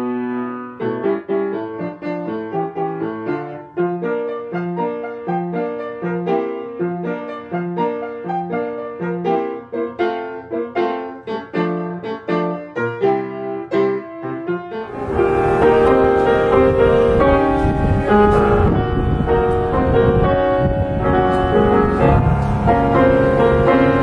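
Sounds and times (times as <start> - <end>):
upright piano playing: 0.0 - 24.0.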